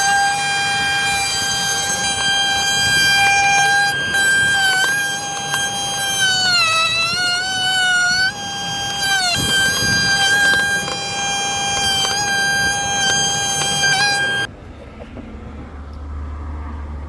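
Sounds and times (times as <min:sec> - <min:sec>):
power tool motor whining: 0:00.0 - 0:14.5.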